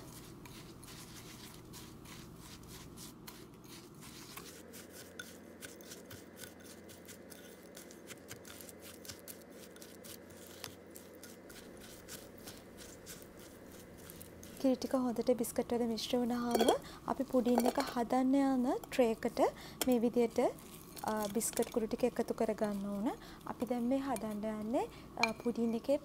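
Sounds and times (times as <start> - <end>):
spatula scraping a bowl: 0.0 - 15.9, 16.5 - 25.5.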